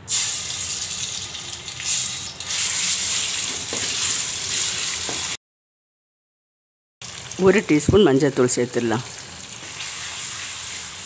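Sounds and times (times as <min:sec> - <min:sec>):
paste sizzling in hot oil: 0:00.1 - 0:05.4, 0:07.0 - 0:11.0.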